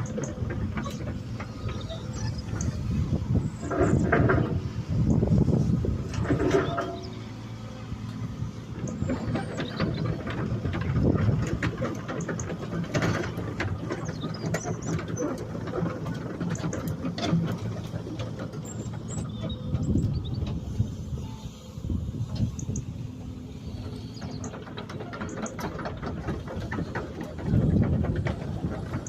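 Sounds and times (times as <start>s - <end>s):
excavator engine running: 0.0s - 29.0s
metal clanks and squeaks: 0.0s - 29.0s.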